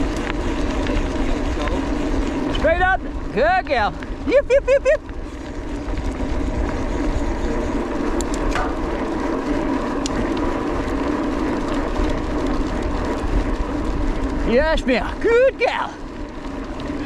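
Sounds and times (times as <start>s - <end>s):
bike tyres rolling on gravel: 0.0s - 17.0s
wind rumble on microphone: 0.0s - 17.0s.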